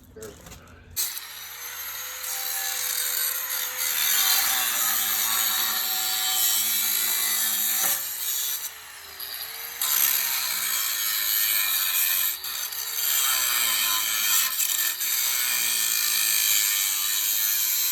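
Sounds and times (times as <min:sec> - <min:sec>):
power saw rasping: 0:01.0 - 0:17.9.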